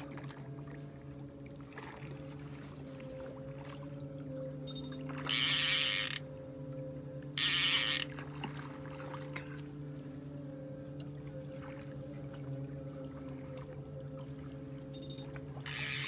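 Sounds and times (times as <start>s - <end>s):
outboard motor humming: 0.0s - 16.0s.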